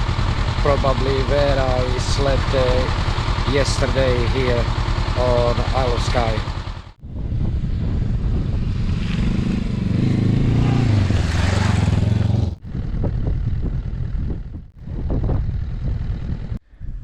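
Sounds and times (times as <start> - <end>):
motorcycle engine running: 0.0 - 16.6
uneven low rumble: 0.0 - 17.0
wind rushing over microphone: 0.0 - 17.0.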